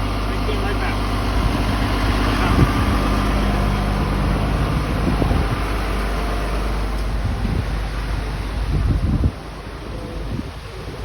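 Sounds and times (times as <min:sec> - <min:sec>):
steady engine hum: 0:00.0 - 0:11.0
strong wind blowing: 0:00.0 - 0:11.0.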